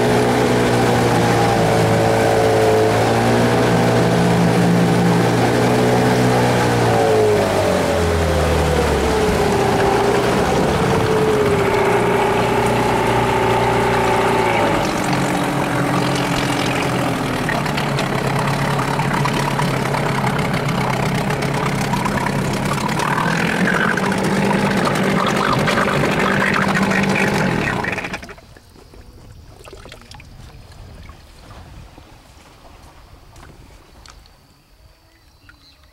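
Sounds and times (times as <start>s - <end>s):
outboard motor running: 0.0s - 31.8s.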